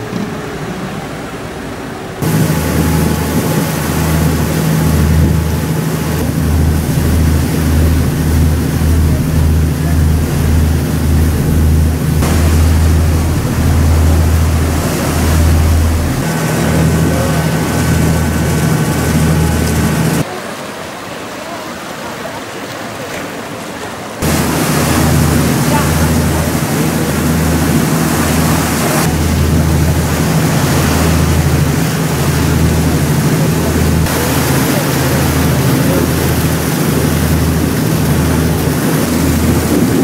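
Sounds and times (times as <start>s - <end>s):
boat engine running: 0.0s - 20.3s, 24.1s - 40.0s
water rushing past hull: 0.0s - 40.0s.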